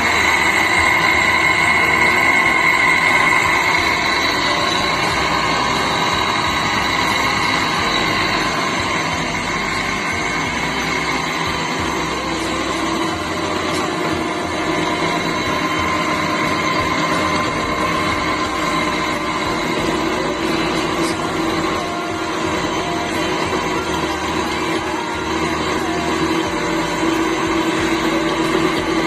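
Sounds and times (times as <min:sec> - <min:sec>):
electric motor whine and hum: 0:00.0 - 0:29.0.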